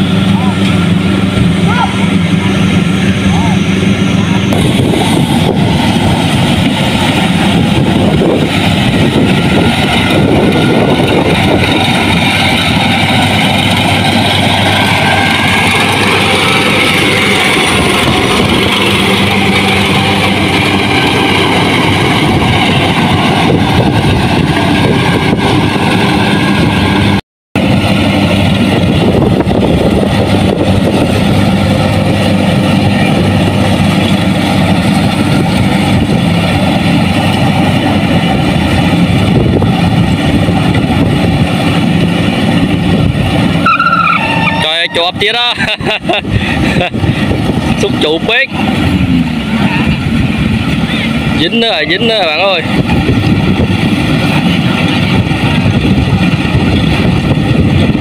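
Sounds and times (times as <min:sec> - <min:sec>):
combine harvester engine droning: 0:00.0 - 0:58.0.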